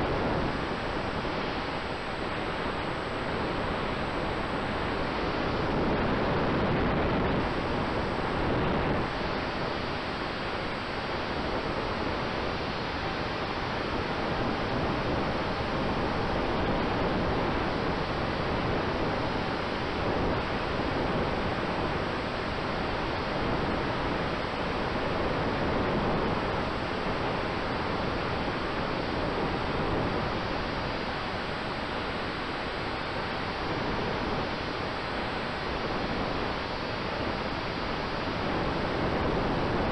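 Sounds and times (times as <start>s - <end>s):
faint steady tone: 0.0s - 39.9s.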